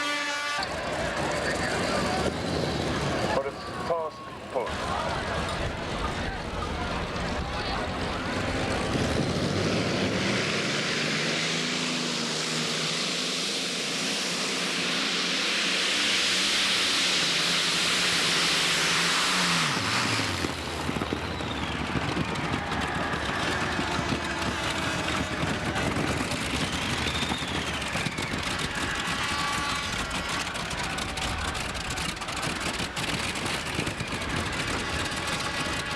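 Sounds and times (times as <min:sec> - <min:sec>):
tractor engine running under load: 0:00.6 - 0:14.3, 0:15.8 - 0:35.9.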